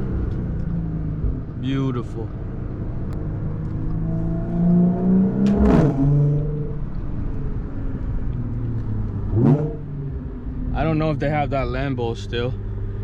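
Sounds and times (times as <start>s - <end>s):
car engine driving slowly: 0.0s - 13.0s.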